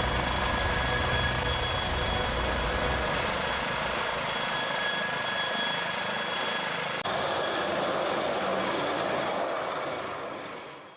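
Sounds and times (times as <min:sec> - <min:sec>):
helicopter engines and rotors: 0:00.0 - 0:10.9.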